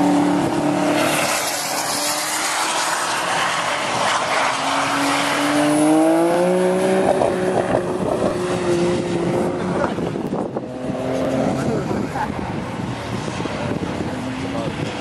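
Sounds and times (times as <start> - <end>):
car engine revving: 0.0 - 15.0
steady rushing noise: 0.0 - 15.0.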